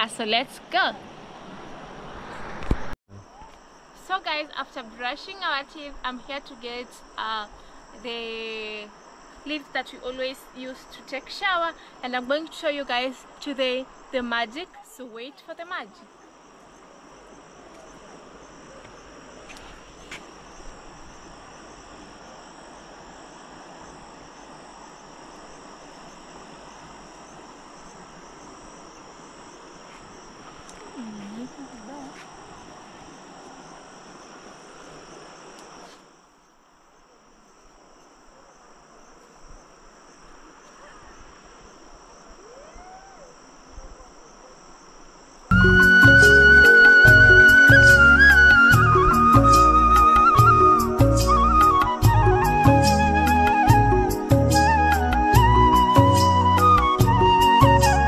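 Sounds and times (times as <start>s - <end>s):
background hiss: 0.0s - 58.0s
insects chirring: 0.0s - 58.0s.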